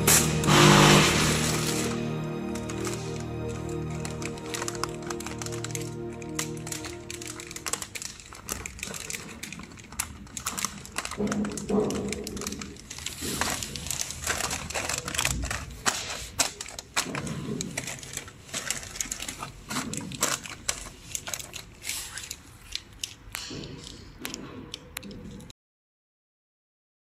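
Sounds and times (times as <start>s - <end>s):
plastic pouches crinkling: 0.0s - 25.4s.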